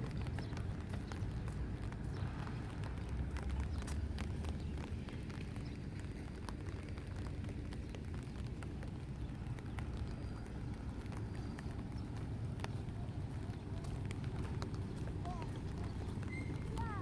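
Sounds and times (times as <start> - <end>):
low rumble of rain: 0.0 - 17.0
raindrops ticking: 0.0 - 17.0.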